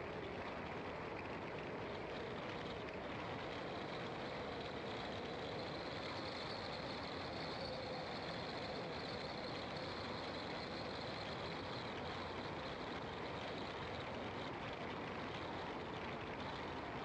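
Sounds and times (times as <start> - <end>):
faint high whine: 1.5 - 17.0.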